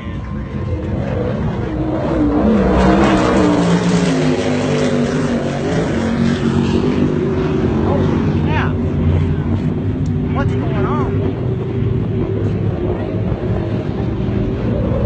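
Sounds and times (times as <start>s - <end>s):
racing powerboat engines: 0.0s - 15.0s.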